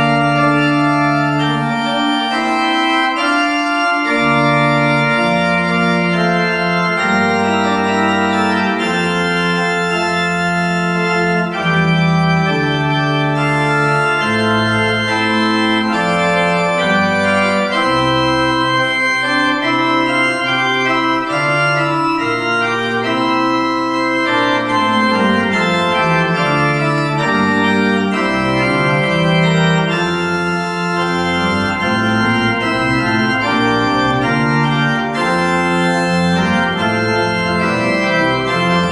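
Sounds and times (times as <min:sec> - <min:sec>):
pipe organ playing: 0:00.0 - 0:38.9.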